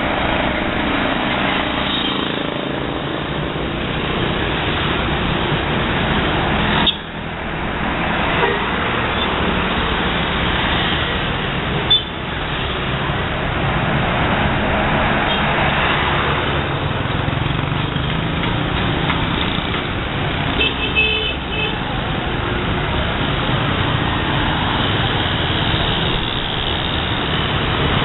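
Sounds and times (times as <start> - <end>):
buses driving past: 0.0 - 28.0.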